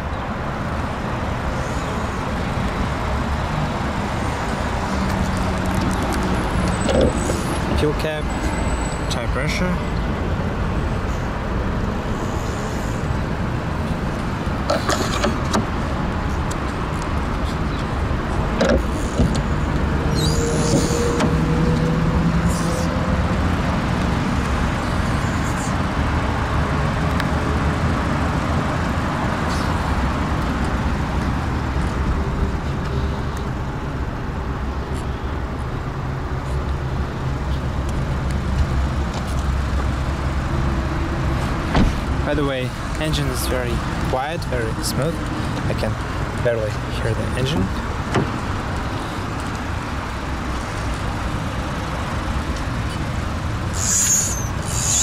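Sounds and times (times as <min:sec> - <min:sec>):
background road traffic: 0:00.0 - 0:55.0.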